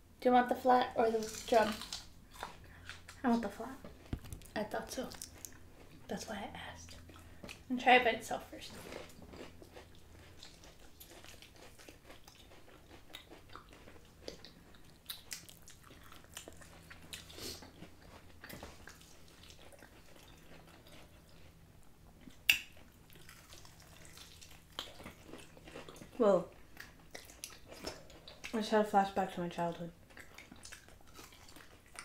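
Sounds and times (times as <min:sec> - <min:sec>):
biting and chewing crunches: 0:01.1 - 0:06.1, 0:08.7 - 0:28.5, 0:30.0 - 0:32.0.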